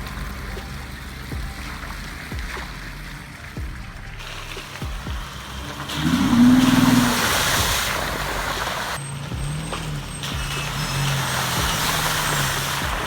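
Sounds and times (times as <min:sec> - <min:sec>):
tyre and road noise: 0:00.0 - 0:13.0
vehicle engine revving: 0:00.0 - 0:13.0.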